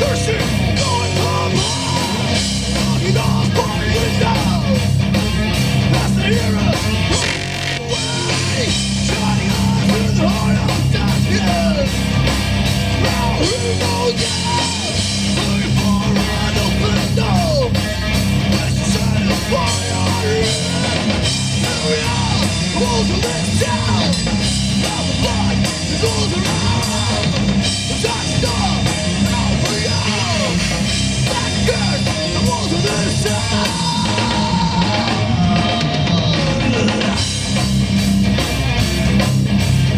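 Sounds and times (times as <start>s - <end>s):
heavy rock band playing live: 0.0s - 39.9s.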